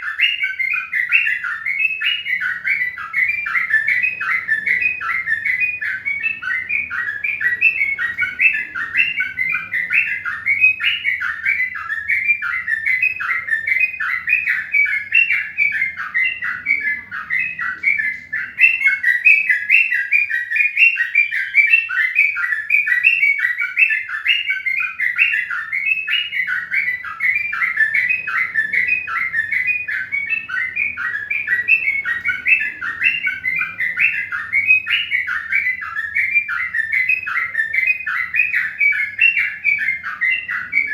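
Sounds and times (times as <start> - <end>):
birds chirping rapidly: 0.0 - 40.9.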